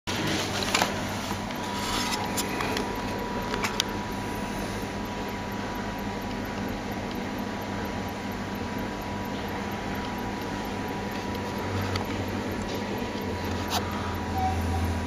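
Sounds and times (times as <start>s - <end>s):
mechanical hum and hiss: 0.1s - 15.0s.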